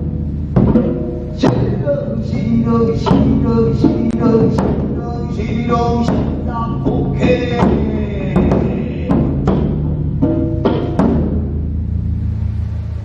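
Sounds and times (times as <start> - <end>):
heavy drum strikes: 0.0 - 13.0.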